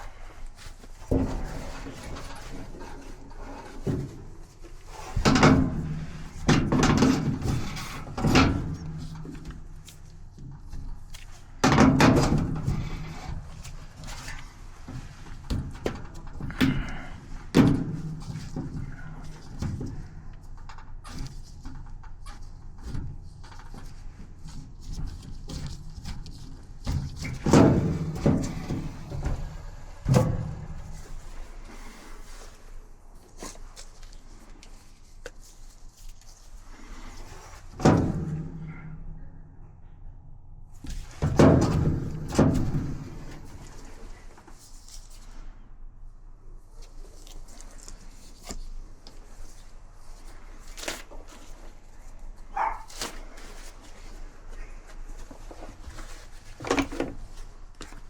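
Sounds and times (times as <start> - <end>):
knocks and clatter of parts: 0.0 - 32.5, 33.2 - 39.1, 40.7 - 45.5, 47.1 - 58.0.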